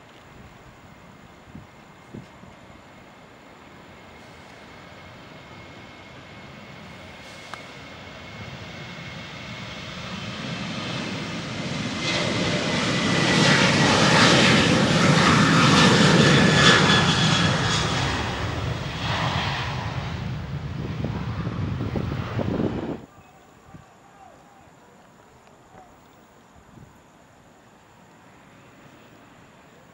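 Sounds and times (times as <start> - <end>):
jet engines rumbling and whining: 0.3 - 25.9.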